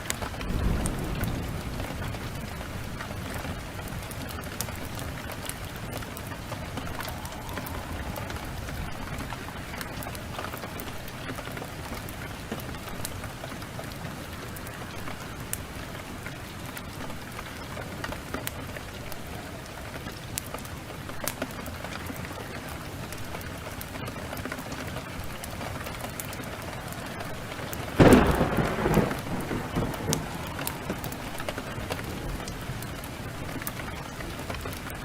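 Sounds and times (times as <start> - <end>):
heavy rain pouring: 0.0 - 35.0
wood fire crackling: 0.0 - 35.0.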